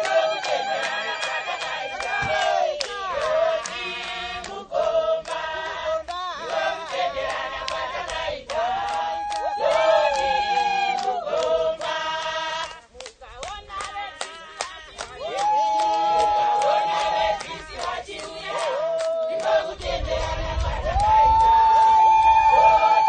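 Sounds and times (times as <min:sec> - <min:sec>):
voices singing in chorus: 0:00.0 - 0:23.0.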